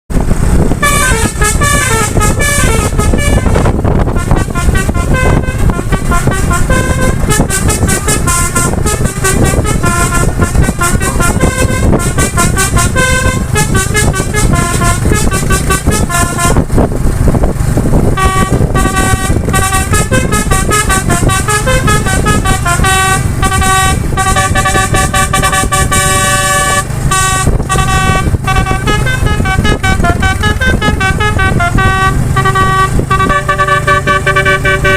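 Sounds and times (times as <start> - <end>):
bus multi-tone horn tune: 0.1 - 34.9
loud low rumble: 0.1 - 34.9.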